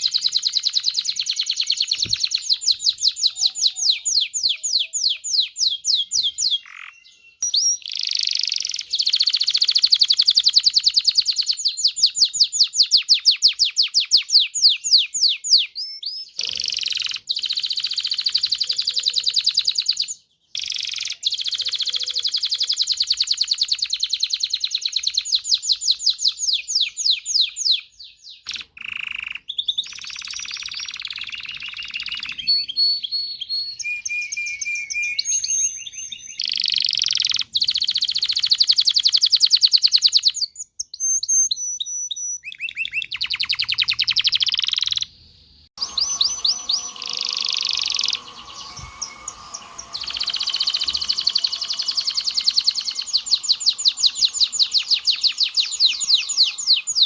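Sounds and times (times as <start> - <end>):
canary singing trills: 0.0 - 45.1, 45.8 - 57.0.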